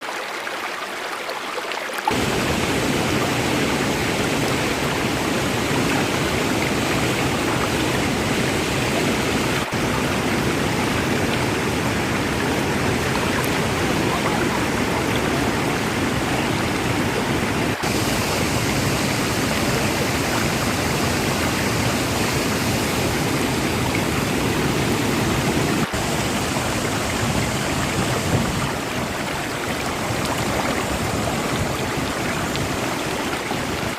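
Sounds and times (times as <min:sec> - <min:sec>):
water rushing through falls: 0:00.0 - 0:33.9.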